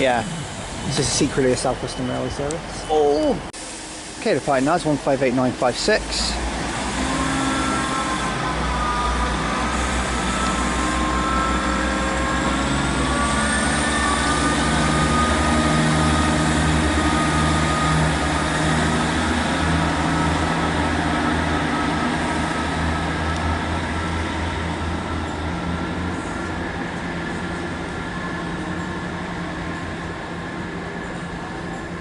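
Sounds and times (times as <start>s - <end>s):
diesel train engine drone: 0.0s - 32.0s
wheels squealing: 6.2s - 32.0s.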